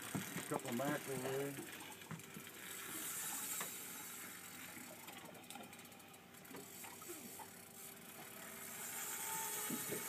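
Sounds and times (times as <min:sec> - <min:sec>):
fishing reel clicking: 0:00.0 - 0:10.0.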